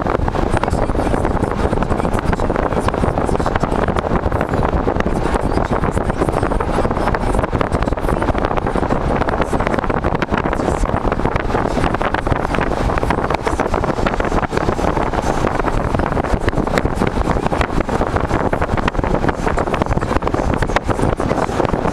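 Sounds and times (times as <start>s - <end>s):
car running and road noise: 0.0s - 21.9s
wind buffeting microphone: 0.0s - 21.9s.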